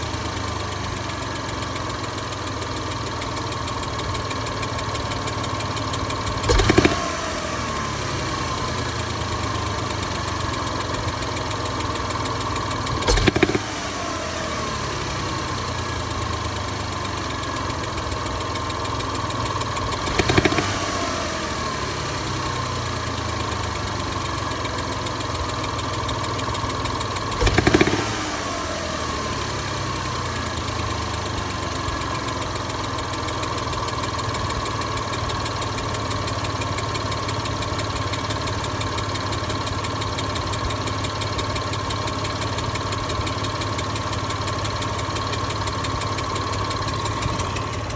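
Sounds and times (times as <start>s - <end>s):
car engine idling and revving: 0.0s - 47.9s
engine hissing tick and knocking: 0.0s - 47.9s.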